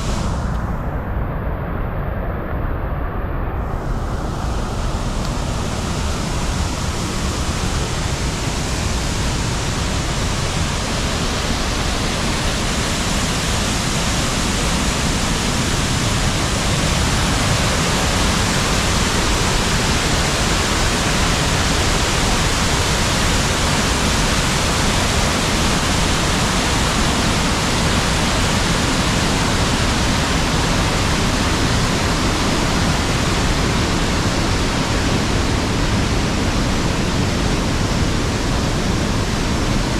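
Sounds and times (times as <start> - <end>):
waterfall rushing: 0.0 - 0.5, 4.8 - 39.9.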